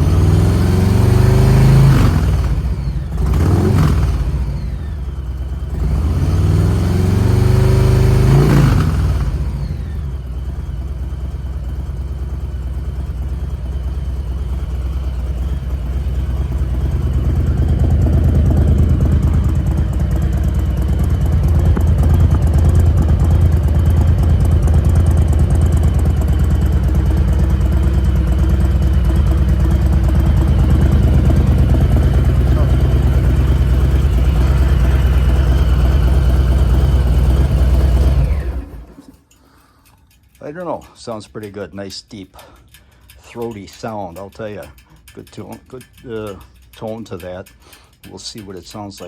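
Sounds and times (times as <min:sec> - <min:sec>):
motorcycle engine revving and idling: 0:00.0 - 0:41.6, 0:42.3 - 0:49.0.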